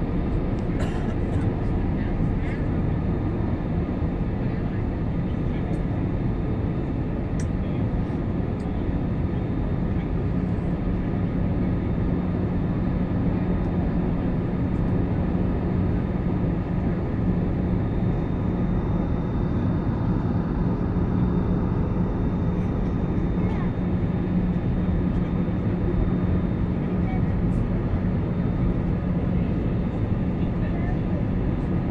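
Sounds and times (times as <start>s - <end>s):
airliner engine drone in cabin: 0.0s - 31.9s.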